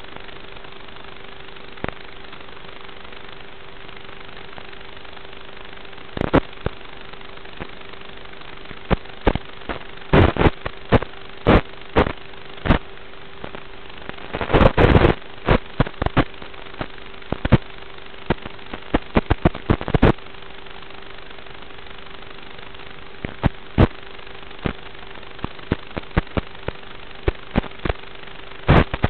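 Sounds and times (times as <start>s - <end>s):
hiss and hum: 0.0s - 29.0s
radio interference crackles and pops: 0.0s - 29.0s.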